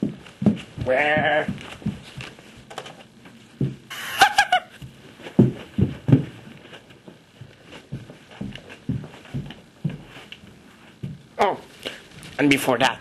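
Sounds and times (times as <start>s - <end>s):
footsteps thumping: 0.0s - 12.5s.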